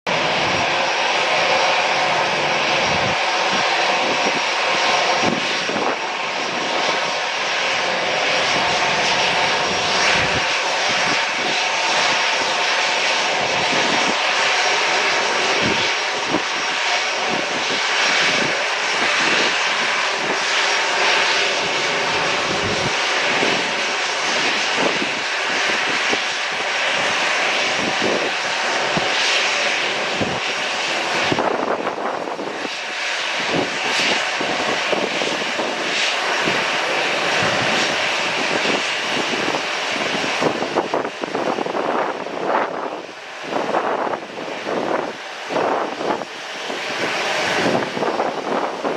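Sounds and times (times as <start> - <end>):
airplane engines running: 0.0 - 48.9.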